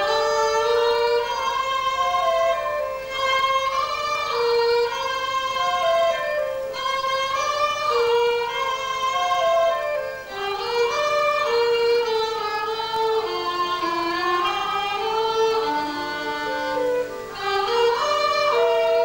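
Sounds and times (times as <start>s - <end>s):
folk dance music with fiddle: 0.0s - 19.0s.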